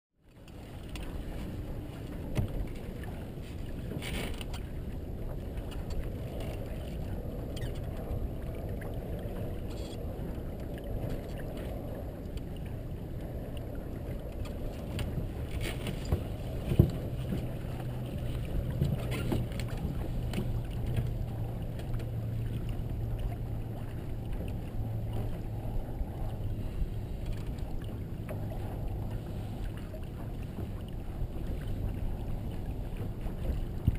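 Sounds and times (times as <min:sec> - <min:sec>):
water rushing along hull: 0:00.2 - 0:33.9
low steady hum: 0:00.3 - 0:33.9
wind buffeting microphone: 0:00.6 - 0:33.9.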